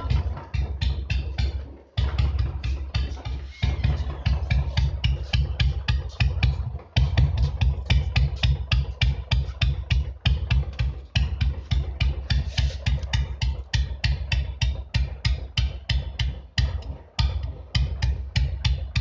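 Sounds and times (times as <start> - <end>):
single-cylinder motorcycle engine thumping: 0.0 - 19.0.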